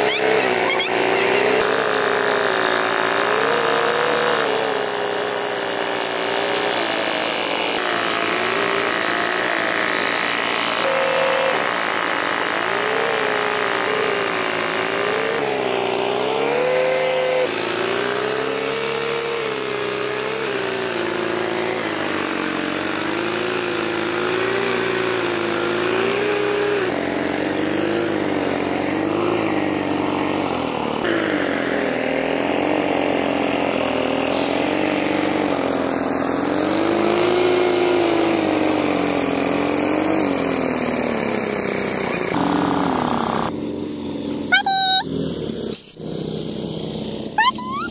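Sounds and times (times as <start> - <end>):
threshing machine engine running: 0.0 - 47.4.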